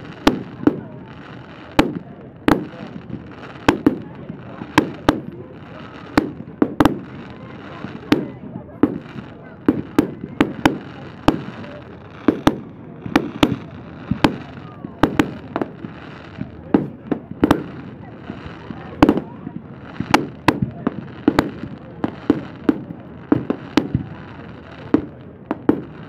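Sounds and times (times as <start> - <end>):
fireworks bangs and pops: 0.0 - 26.0
fireworks crackle: 0.0 - 26.0.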